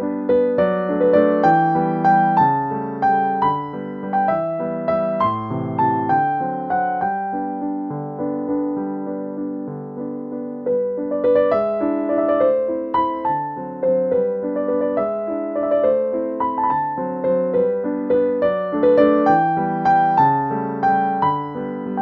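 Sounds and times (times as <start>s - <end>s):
light keyboard music: 0.0s - 22.0s.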